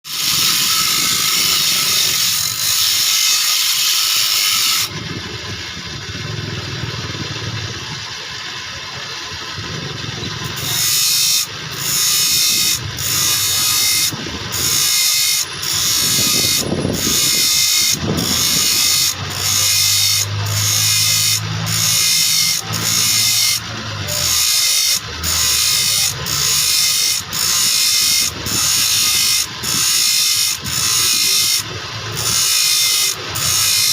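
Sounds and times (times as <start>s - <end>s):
power grinder sharpening saw teeth: 0.0s - 4.9s, 10.2s - 33.9s.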